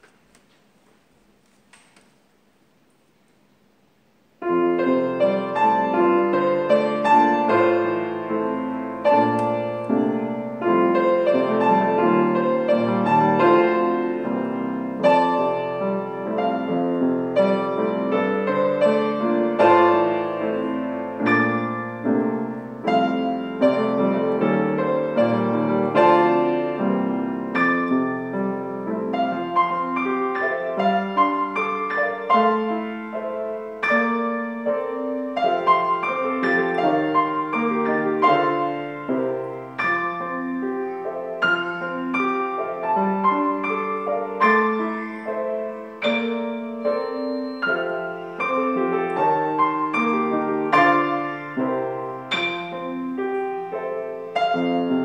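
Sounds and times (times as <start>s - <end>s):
grand piano playing: 4.4s - 55.0s.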